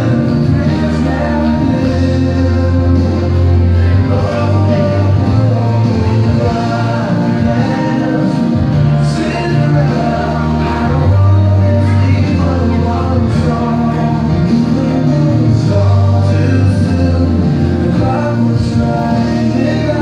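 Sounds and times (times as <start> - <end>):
heavy bass line: 0.0 - 20.0
person singing: 0.0 - 20.0.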